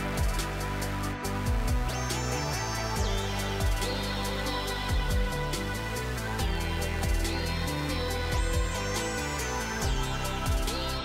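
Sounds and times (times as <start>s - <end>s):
background music with steady beat: 0.0s - 11.0s
sliding high notes: 0.0s - 11.0s.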